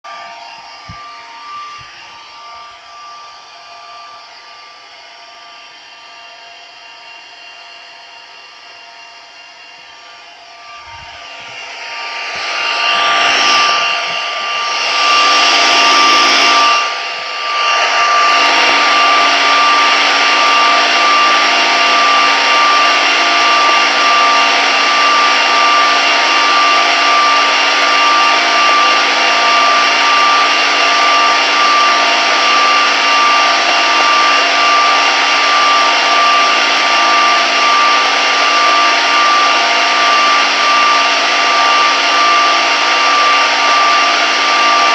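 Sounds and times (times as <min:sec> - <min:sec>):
constant high whistle: 0:00.0 - 0:44.9.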